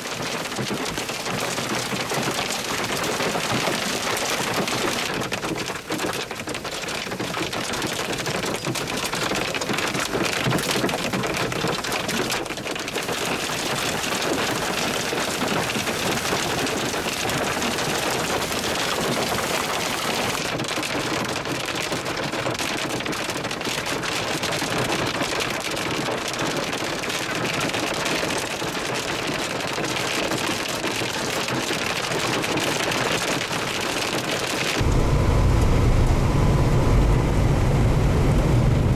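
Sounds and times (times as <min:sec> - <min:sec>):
hail and rain clattering: 0:00.0 - 0:35.1.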